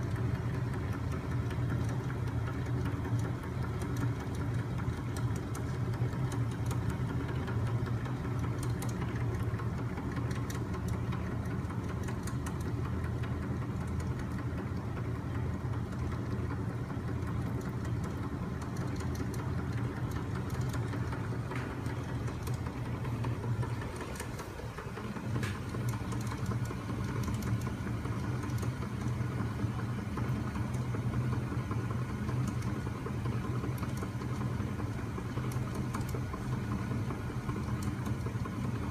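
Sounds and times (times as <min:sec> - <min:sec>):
machine running with low hum: 0:00.0 - 0:38.9
mechanical clicking and rattling: 0:00.1 - 0:15.0, 0:15.8 - 0:38.9.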